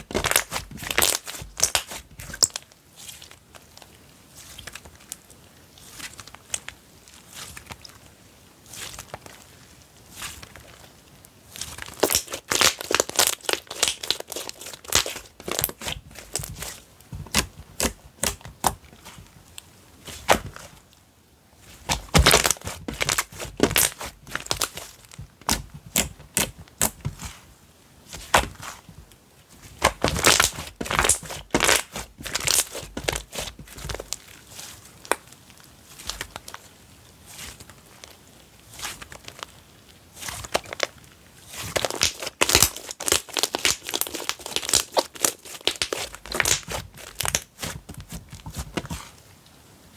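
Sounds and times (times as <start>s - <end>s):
slime squishing and crackling: 0.0s - 5.2s, 8.6s - 21.0s, 21.6s - 27.5s, 28.1s - 39.6s, 40.2s - 49.2s.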